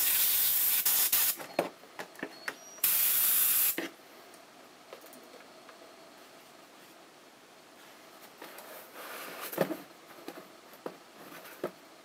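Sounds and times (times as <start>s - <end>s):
low hiss: 0.0s - 1.5s, 2.1s - 12.0s.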